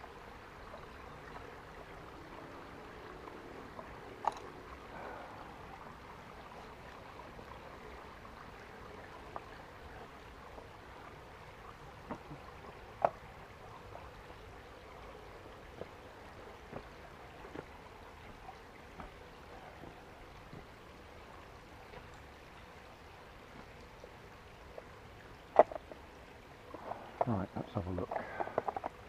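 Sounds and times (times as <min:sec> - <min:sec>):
stream trickling: 0:00.0 - 0:29.0.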